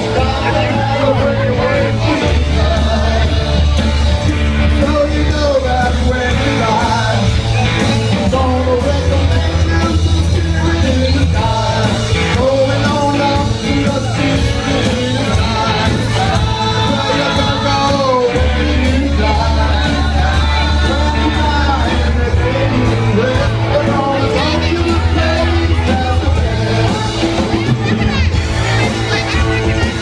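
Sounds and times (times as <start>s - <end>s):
live rock band playing: 0.0s - 30.0s
man singing: 0.0s - 30.0s.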